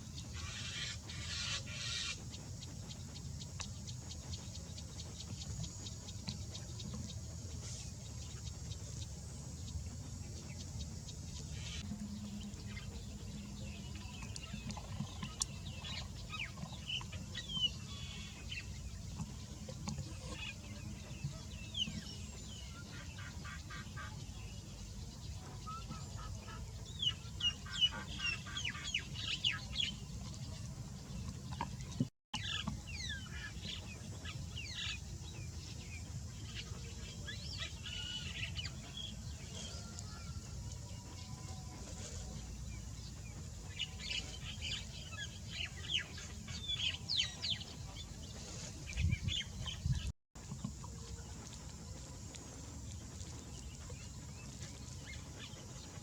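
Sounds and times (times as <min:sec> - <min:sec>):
birds chirping: 0:00.0 - 0:56.0
steady low rumble: 0:00.0 - 0:56.0.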